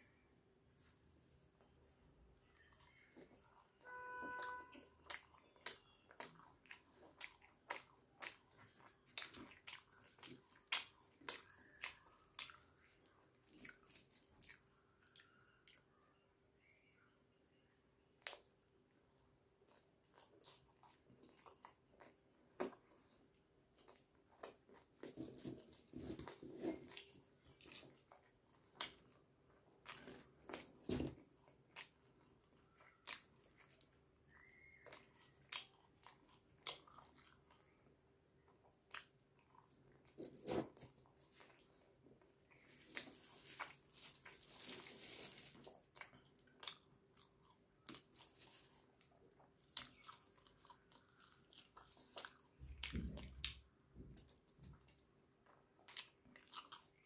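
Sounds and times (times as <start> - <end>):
person chewing wetly: 2.3 - 17.0, 17.8 - 57.0.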